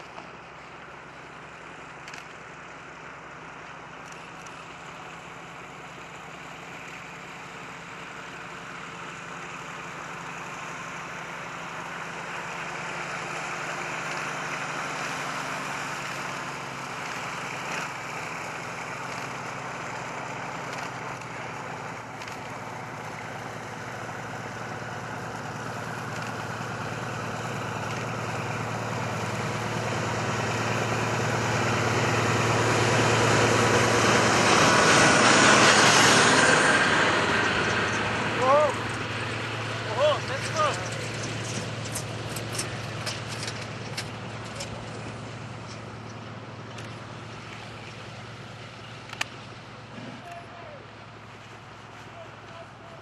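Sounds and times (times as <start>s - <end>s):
diesel locomotive engine: 0.0s - 53.0s.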